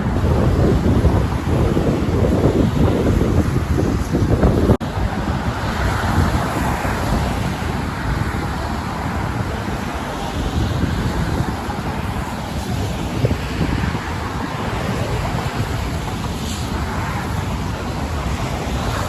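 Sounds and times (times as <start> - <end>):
road traffic: 0.0 - 19.0
storm wind buffeting microphone: 0.0 - 19.0.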